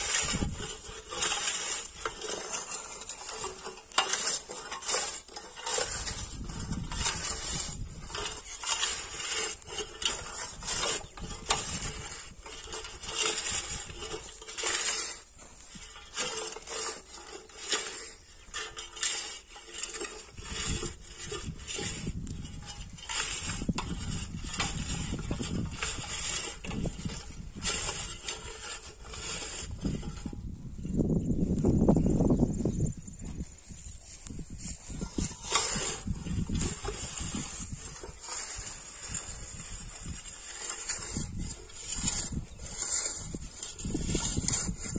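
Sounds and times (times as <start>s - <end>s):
weeder blade scraping dry soil: 0.0s - 44.9s.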